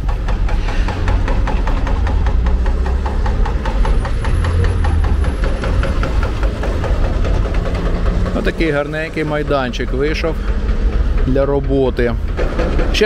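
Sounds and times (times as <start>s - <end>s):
fast even engine knocking: 0.0s - 13.0s
heavy machinery engine running: 0.0s - 13.0s.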